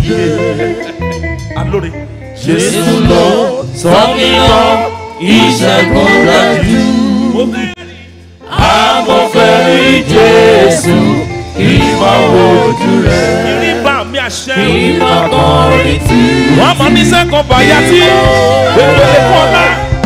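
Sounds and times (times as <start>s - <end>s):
gospel singers: 0.0s - 1.3s, 2.4s - 20.0s
band with bass guitar: 0.0s - 20.0s.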